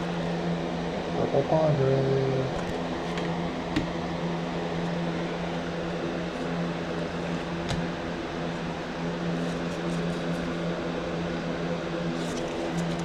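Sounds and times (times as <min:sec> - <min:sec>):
fan-like mechanical hum: 0:00.0 - 0:13.0.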